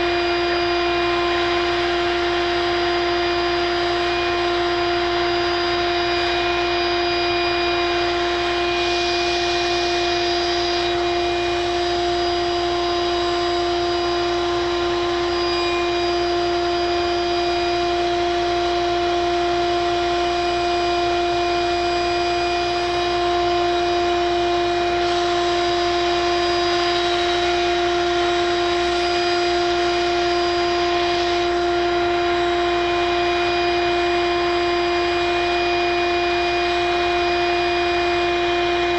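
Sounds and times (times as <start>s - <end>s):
vacuum motor humming: 0.0s - 38.9s.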